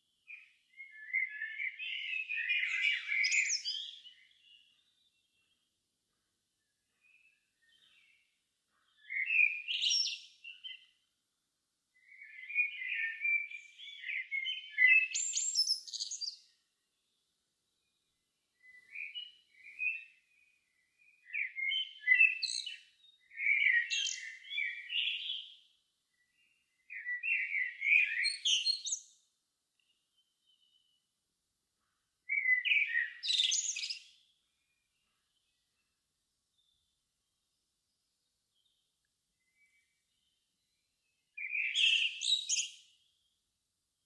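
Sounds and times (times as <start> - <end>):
songbird singing: 0.0 - 5.8, 6.6 - 11.1, 12.0 - 31.1, 31.8 - 43.4.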